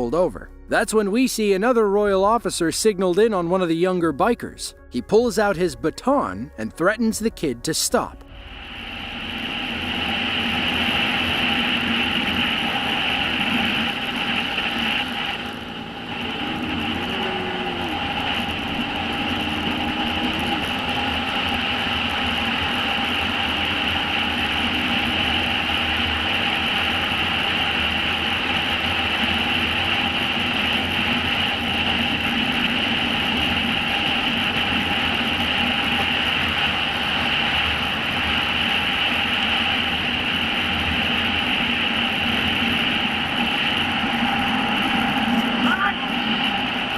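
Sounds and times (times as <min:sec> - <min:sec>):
motorcycle engines at speed: 0:08.6 - 0:46.9.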